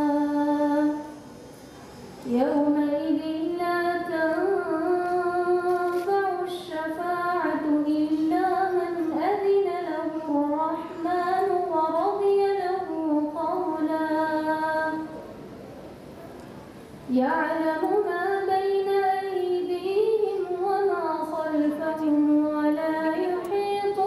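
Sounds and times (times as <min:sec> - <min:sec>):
woman reciting melodically: 0:00.0 - 0:01.4, 0:02.2 - 0:15.3, 0:17.0 - 0:24.0.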